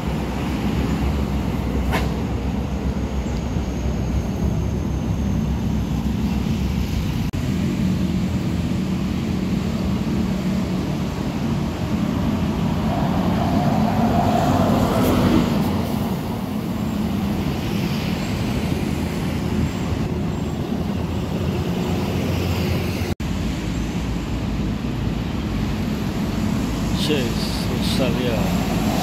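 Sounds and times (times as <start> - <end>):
bus driving past: 0.0 - 29.0
road traffic: 0.0 - 29.0.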